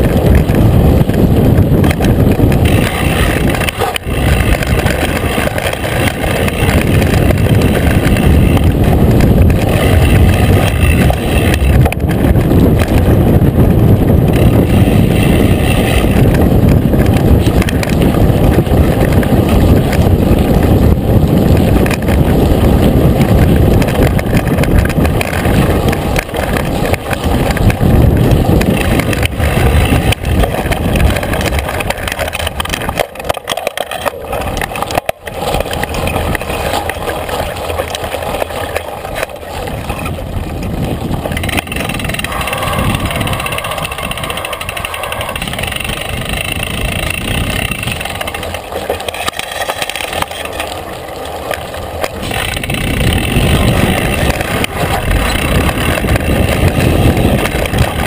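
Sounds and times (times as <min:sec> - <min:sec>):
bike tyres rumbling and rattling: 0:00.0 - 0:58.0
wind buffeting microphone: 0:00.0 - 0:58.0.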